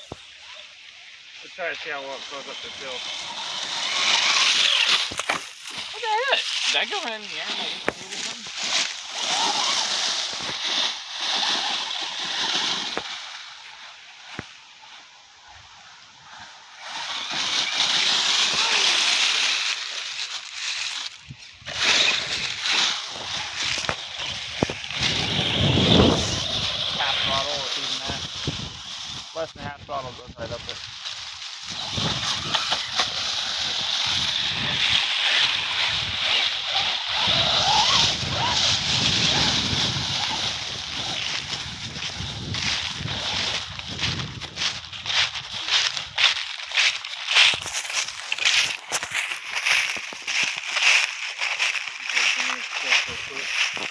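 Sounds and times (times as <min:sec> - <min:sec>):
tyres churning dry leaves: 0:00.0 - 0:53.9.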